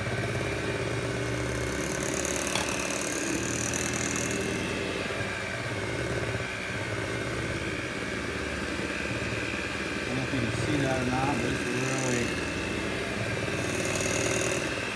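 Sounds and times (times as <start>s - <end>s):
electric hand mixer whirring: 0.0s - 14.9s.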